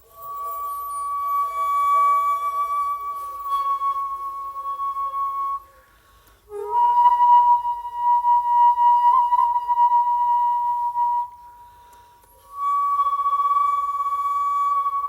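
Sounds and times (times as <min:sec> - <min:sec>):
bamboo flute long note: 0:00.0 - 0:15.0.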